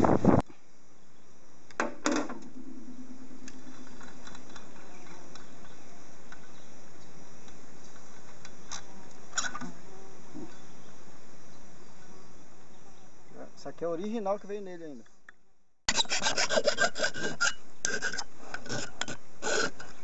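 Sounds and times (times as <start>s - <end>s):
faint steady background noise: 0.4s - 20.0s.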